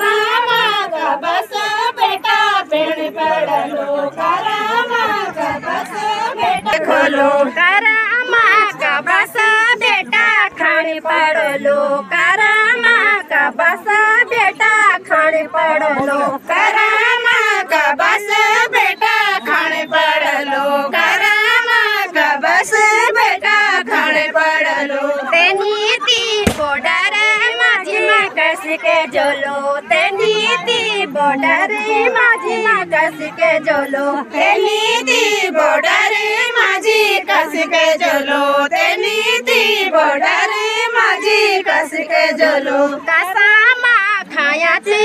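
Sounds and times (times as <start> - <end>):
women singing folk song: 0.0 - 45.0.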